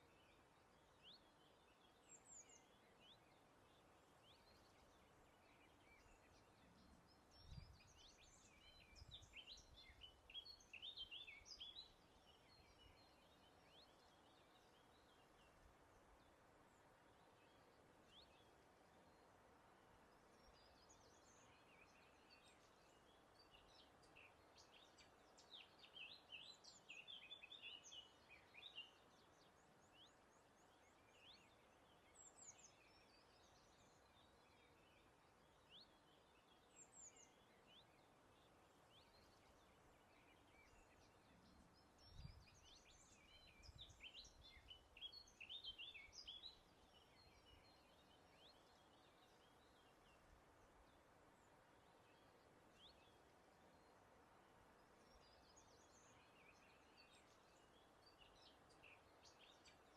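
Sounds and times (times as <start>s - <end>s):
soft steady hiss: 0.0s - 59.9s
songbirds twittering: 0.0s - 59.9s.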